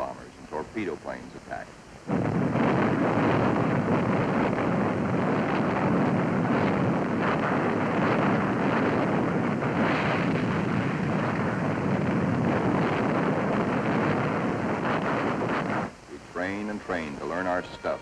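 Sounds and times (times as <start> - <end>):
wind rushing: 1.8 - 18.0.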